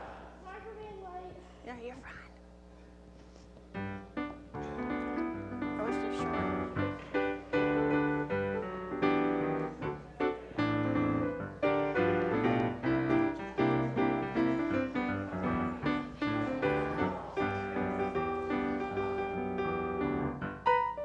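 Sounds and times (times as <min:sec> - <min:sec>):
piano music: 0:03.8 - 0:21.0.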